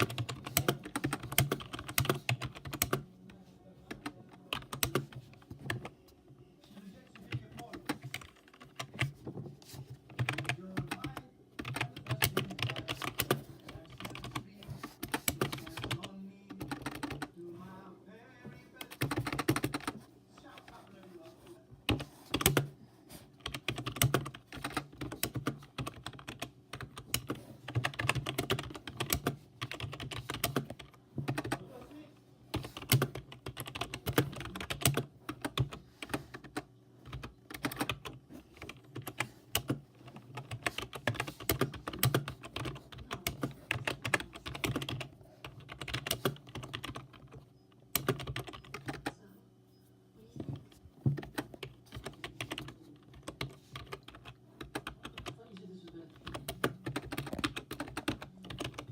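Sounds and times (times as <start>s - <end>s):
typing on computer keyboard: 0.0s - 3.0s, 3.9s - 5.9s, 7.2s - 9.2s, 10.0s - 17.3s, 18.8s - 20.7s, 21.9s - 22.7s, 23.4s - 31.7s, 32.5s - 49.2s, 50.4s - 58.9s.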